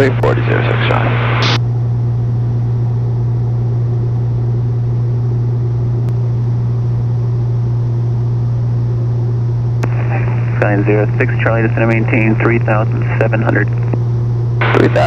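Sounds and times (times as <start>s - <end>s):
airplane engine droning in cockpit: 0.0s - 15.0s.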